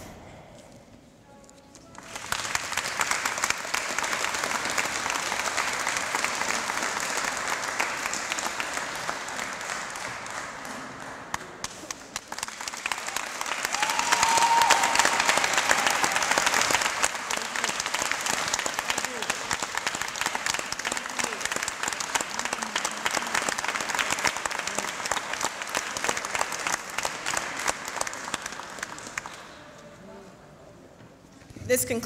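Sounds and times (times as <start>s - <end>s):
crowd applauding: 2.0s - 29.6s.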